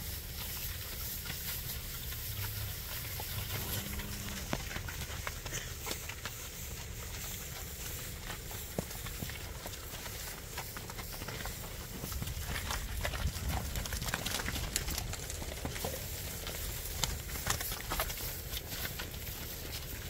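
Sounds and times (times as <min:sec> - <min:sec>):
cattle hoof steps: 0:00.0 - 0:20.0
rustling straw: 0:00.0 - 0:20.0
steady low rumble: 0:00.0 - 0:20.0.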